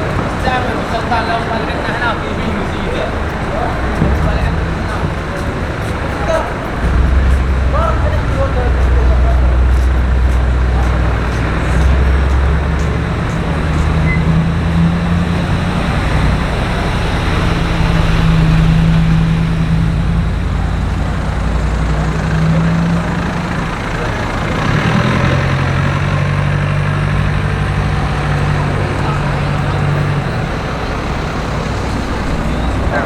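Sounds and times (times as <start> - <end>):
road noise: 0.0 - 33.0
vehicle engines humming: 0.0 - 33.0.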